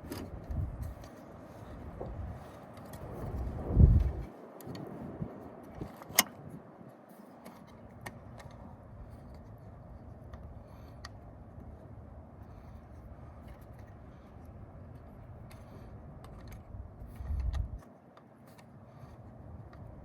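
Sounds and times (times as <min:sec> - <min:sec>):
low background rumble: 0:00.0 - 0:07.1, 0:07.8 - 0:17.8.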